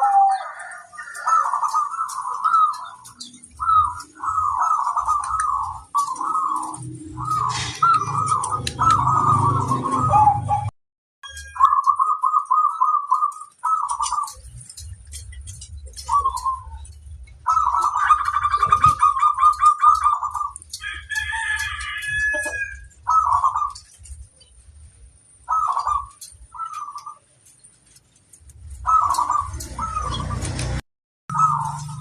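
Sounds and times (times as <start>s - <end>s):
doves cooing: 0.0s - 10.7s, 11.6s - 24.6s, 25.4s - 32.0s.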